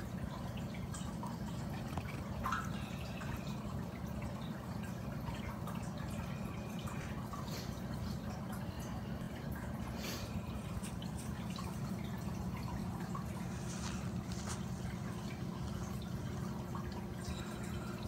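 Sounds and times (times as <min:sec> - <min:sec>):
small splashes: 0:00.0 - 0:18.0
steady low hum: 0:00.0 - 0:18.0
water dripping and trickling: 0:00.0 - 0:18.0.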